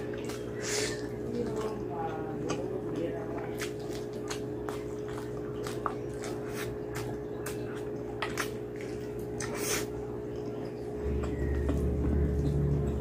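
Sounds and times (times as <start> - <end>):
wet chewing and lip smacks: 0.0 - 1.8, 2.4 - 13.0
steady low hum: 0.0 - 13.0.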